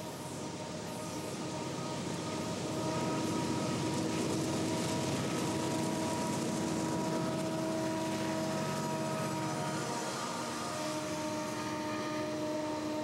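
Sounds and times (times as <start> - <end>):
diesel locomotives passing: 0.0 - 13.0
steady multi-tone whine: 0.0 - 13.0
rail cars rumbling and clicking: 0.3 - 13.0.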